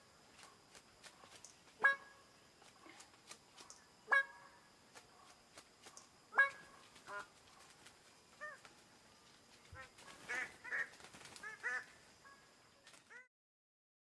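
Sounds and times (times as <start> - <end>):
bird calling: 0.0 - 3.0, 3.6 - 8.7, 9.6 - 13.3.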